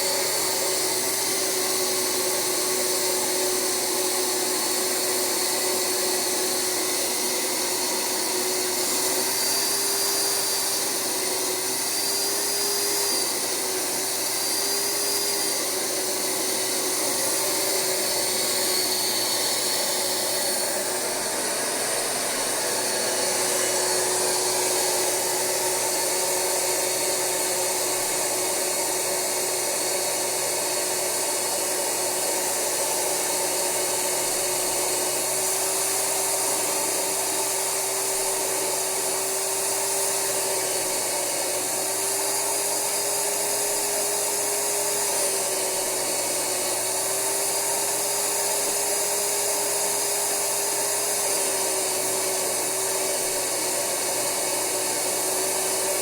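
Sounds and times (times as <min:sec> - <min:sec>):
carpet cleaner motor hum: 0:00.0 - 0:56.0.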